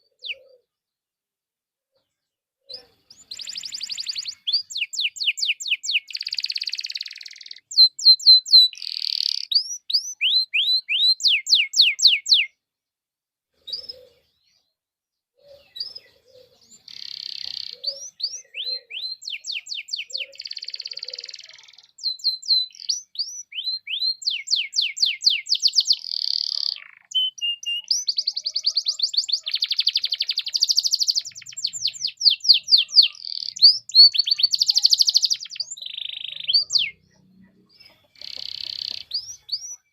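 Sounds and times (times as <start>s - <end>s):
canary singing: 0.0s - 0.7s, 2.7s - 12.6s, 15.4s - 39.9s.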